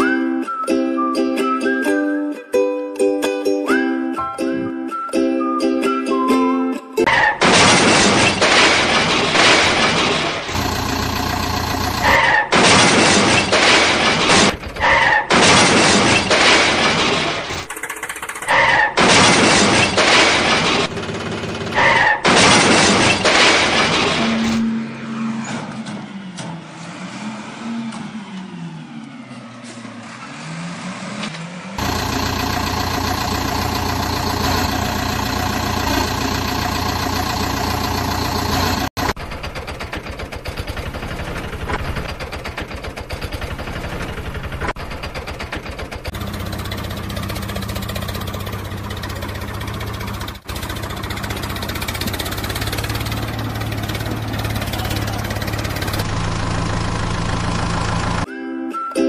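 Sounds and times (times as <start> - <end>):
engine sound effects: 7.0 - 58.3.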